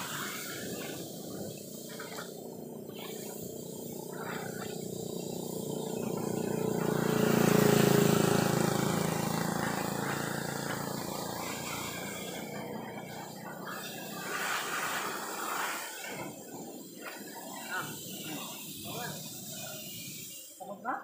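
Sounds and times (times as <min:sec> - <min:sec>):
pressure washer spraying: 0:00.0 - 0:21.0.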